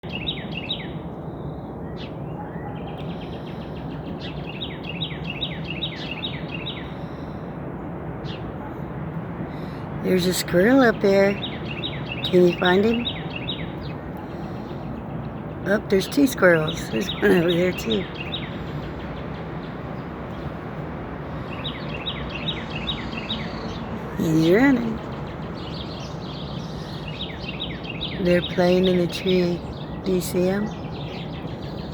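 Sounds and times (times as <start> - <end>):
outdoor background hiss: 0.0 - 31.9
songbird singing: 0.0 - 31.9.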